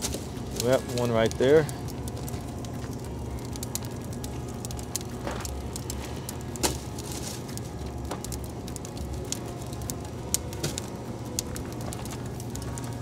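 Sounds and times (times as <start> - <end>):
crackling clicks: 0.0 - 13.0
steady low hum: 0.0 - 13.0
wood logs knocking on charcoal: 0.0 - 13.0.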